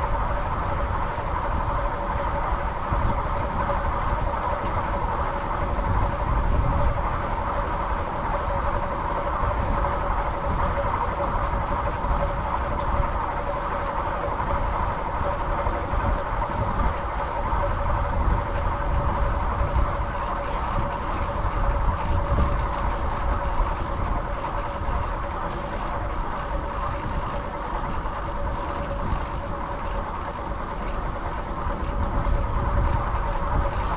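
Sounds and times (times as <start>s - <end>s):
vehicle hum and rumble: 0.0s - 33.9s.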